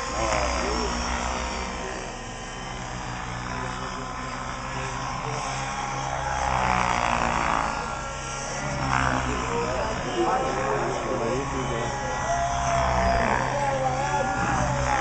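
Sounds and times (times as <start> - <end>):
model helicopter rotor whine: 0.0 - 15.0.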